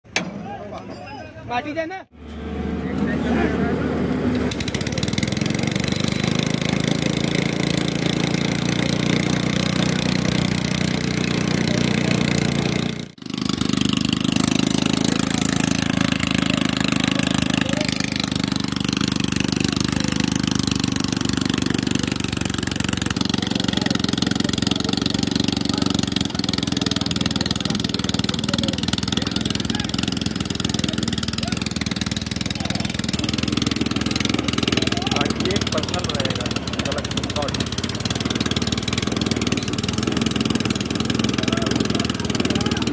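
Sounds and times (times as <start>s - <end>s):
small engine running: 2.1s - 42.9s.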